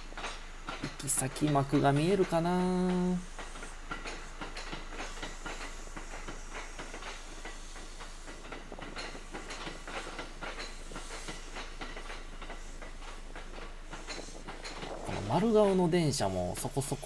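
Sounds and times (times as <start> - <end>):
train wheels clattering: 0.0 - 17.0.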